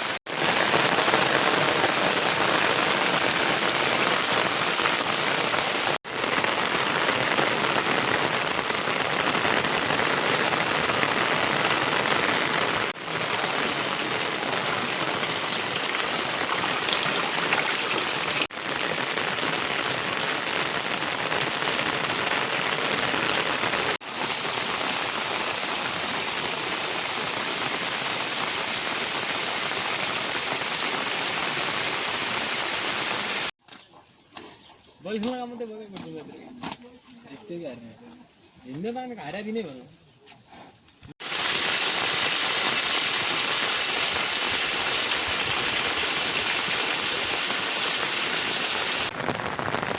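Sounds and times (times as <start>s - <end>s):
steady rain falling: 0.0s - 33.6s, 41.2s - 49.9s.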